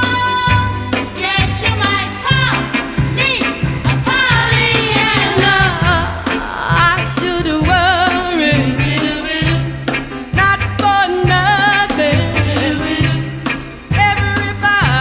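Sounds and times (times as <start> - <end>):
drums: 0.0 - 15.0
walking bass line: 0.0 - 15.0
women singing with vibrato: 0.0 - 15.0.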